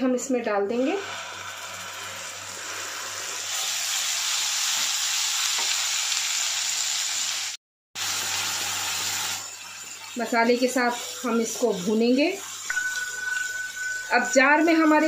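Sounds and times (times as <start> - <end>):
puree sizzling in hot oil: 0.8 - 15.0.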